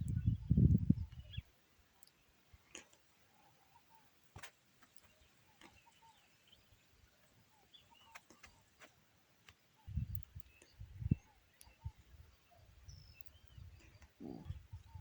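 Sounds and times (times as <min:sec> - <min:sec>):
faint bird chirps: 0:00.0 - 0:04.2, 0:04.8 - 0:09.0, 0:09.7 - 0:15.0.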